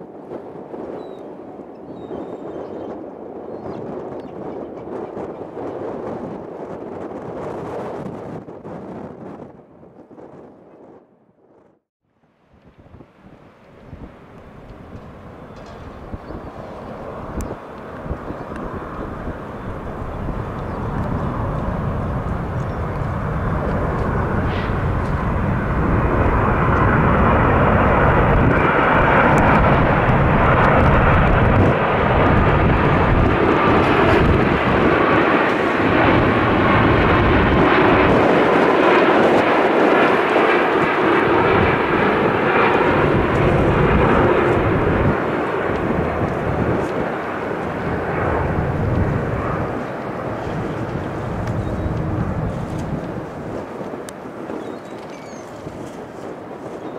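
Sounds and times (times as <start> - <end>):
jet roar overhead: 0.0 - 56.9.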